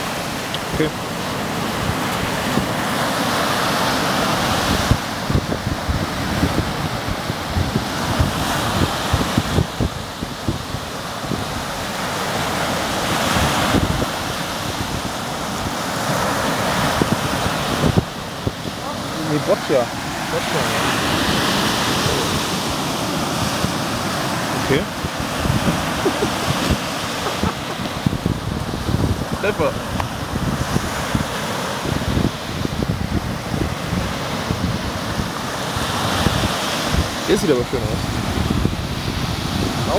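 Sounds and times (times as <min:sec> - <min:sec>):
waves breaking on beach: 0:00.0 - 0:39.9
wind buffeting microphone: 0:00.0 - 0:39.9.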